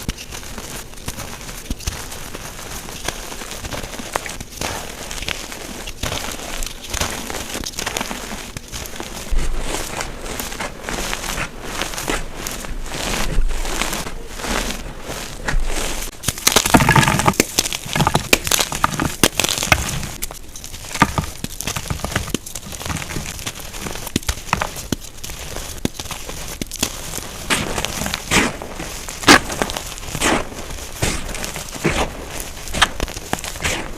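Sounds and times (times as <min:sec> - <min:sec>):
chalk crushing and cracking: 0:00.0 - 0:33.9.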